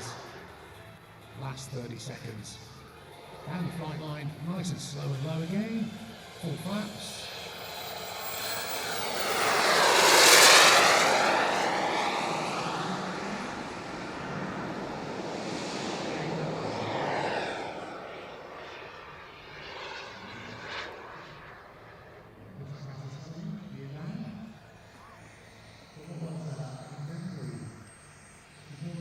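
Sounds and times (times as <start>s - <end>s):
model jet turbine whine: 0.0s - 29.0s.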